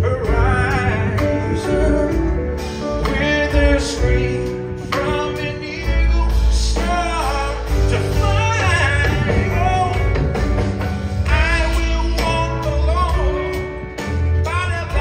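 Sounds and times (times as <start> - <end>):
drums: 0.0 - 15.0
guitar: 0.0 - 15.0
man singing lead: 0.0 - 15.0
upright bass: 0.0 - 15.0.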